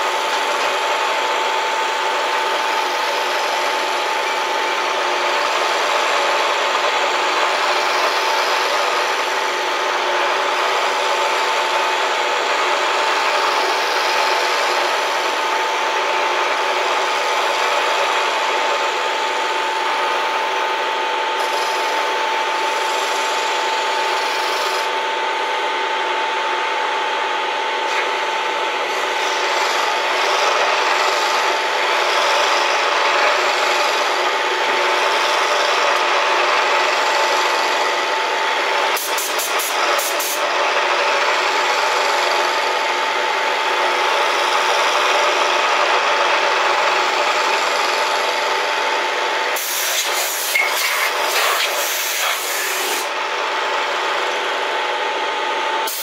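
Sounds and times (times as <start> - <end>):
constant machine whine: 0.0 - 56.0
milling machine cutting noise: 0.0 - 56.0.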